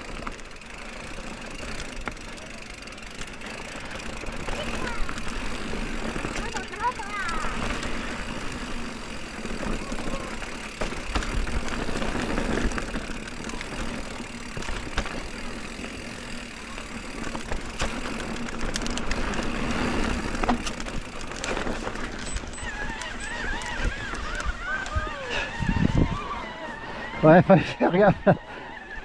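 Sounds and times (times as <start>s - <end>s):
bike knocks and rattles: 0.0s - 25.0s
bike tyres on stony trail: 0.0s - 29.0s.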